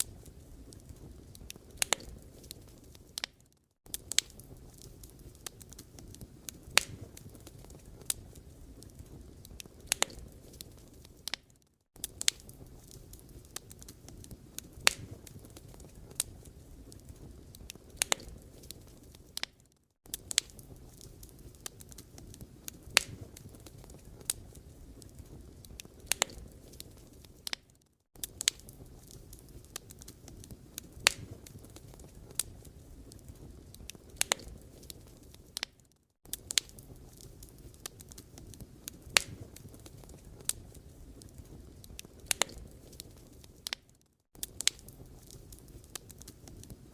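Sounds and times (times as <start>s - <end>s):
firewood crackling and popping: 0.0s - 46.9s.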